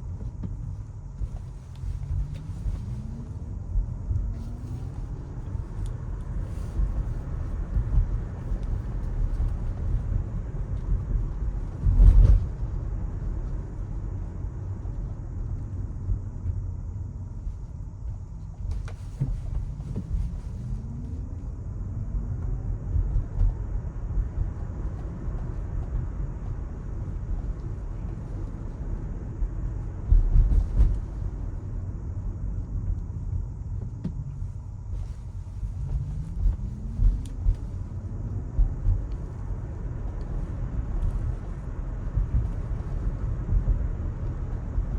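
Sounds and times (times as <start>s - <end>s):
road and tyre rumble: 0.0s - 44.9s
faint rising whine: 0.7s - 10.1s, 14.6s - 44.9s.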